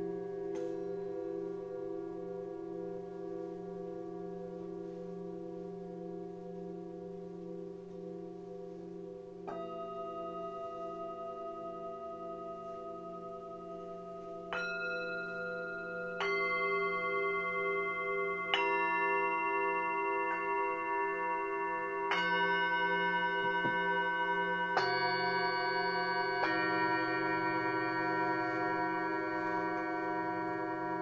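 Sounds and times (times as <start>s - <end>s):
singing bowls ringing: 0.0s - 31.0s.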